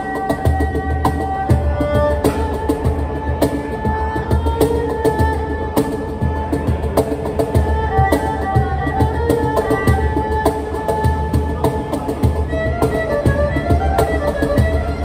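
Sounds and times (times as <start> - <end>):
cajon bass thumps and slaps: 0.0 - 15.0
erhu bowing a melody: 0.0 - 15.0.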